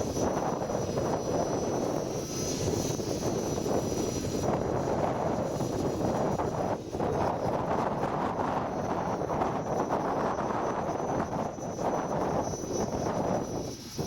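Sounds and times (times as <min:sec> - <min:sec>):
rc helicopter motor whine: 0:00.0 - 0:14.0
wind buffeting microphone: 0:00.0 - 0:14.0.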